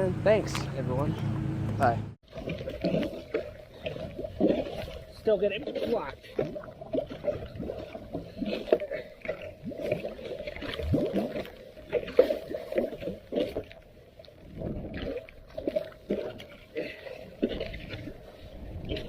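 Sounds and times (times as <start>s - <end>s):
floodwater splashing and sloshing: 0.0s - 19.0s.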